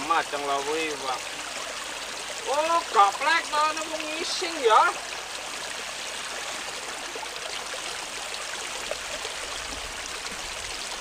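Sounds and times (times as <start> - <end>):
water rushing in a ditch: 0.0 - 11.0.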